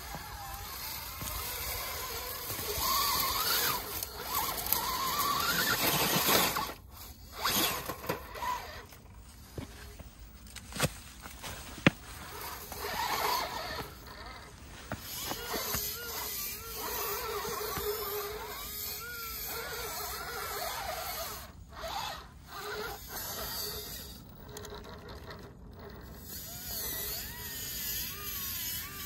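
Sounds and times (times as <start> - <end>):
electric motor whining: 0.0 - 10.6, 11.3 - 29.0
tyres scraping on rock: 0.0 - 25.4.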